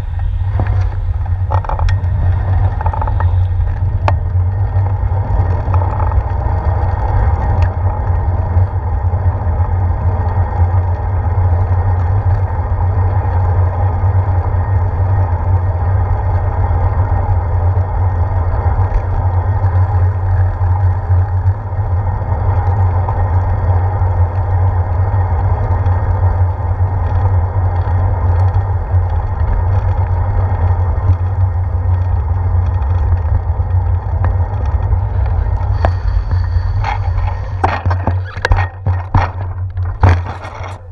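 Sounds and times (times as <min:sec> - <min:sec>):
bicycle road rumble: 0:00.0 - 0:40.9
wind: 0:00.0 - 0:40.9.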